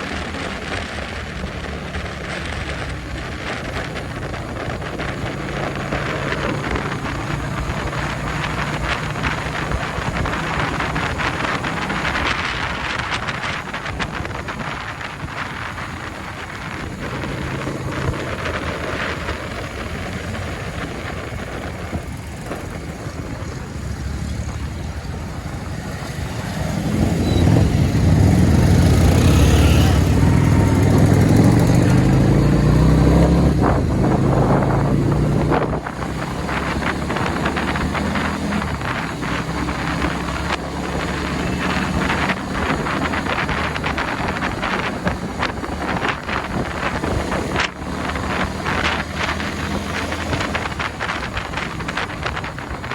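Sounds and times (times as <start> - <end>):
loud passing engine: 0.0 - 52.9
motorbike engine and road noise: 0.0 - 52.9
wind buffeting microphone: 0.0 - 52.9.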